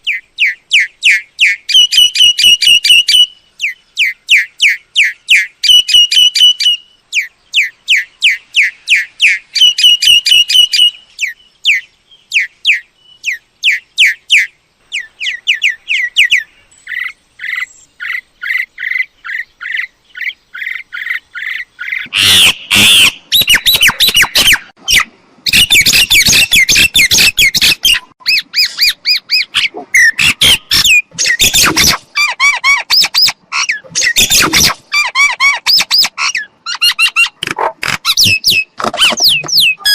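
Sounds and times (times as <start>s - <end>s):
bird chirping: 0.0s - 39.9s
harsh squawking bird calls: 0.0s - 39.9s.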